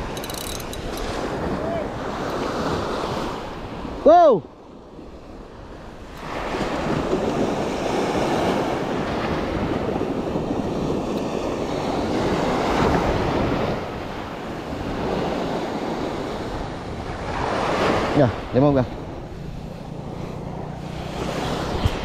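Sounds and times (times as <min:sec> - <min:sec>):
wind buffeting microphone: 0:00.0 - 0:04.1, 0:04.7 - 0:22.0
surf washing on sandy beach: 0:00.8 - 0:22.0.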